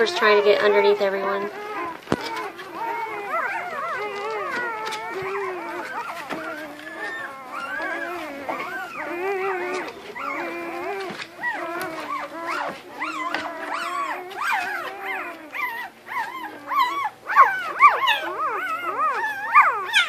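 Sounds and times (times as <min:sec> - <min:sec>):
puppies crying and squealing: 0:00.0 - 0:20.0.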